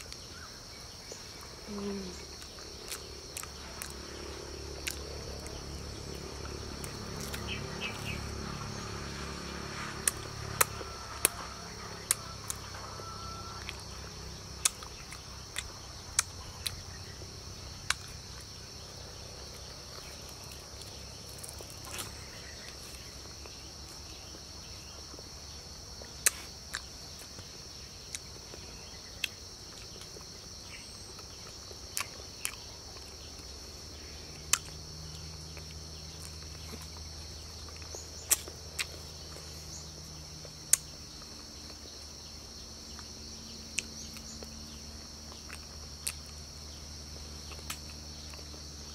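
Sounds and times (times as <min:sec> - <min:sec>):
insect chorus: 0:00.0 - 0:48.9.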